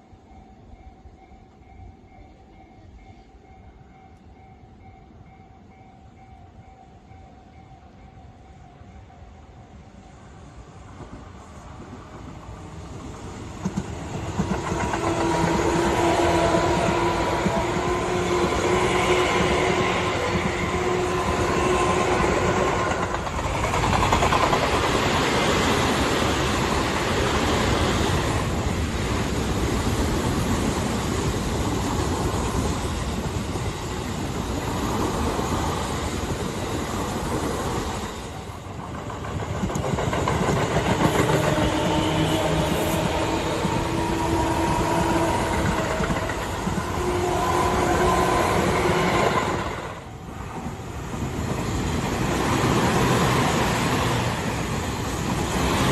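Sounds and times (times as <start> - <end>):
electric train running on rails: 0.0 - 55.9.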